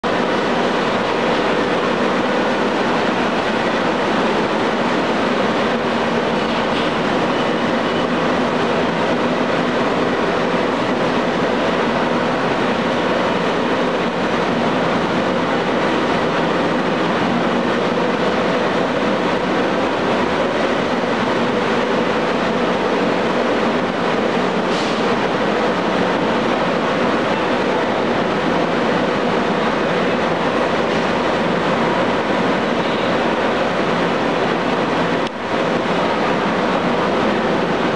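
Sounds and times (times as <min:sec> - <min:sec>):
machinery drone and hum: 0:00.0 - 0:37.9.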